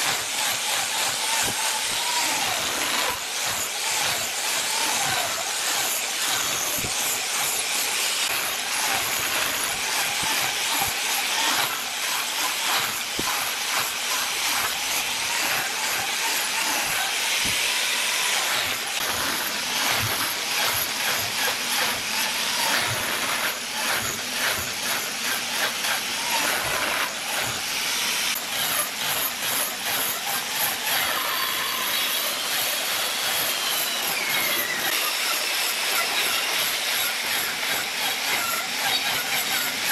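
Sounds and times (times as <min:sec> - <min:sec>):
angle grinder sanding wood: 0:00.0 - 0:39.9.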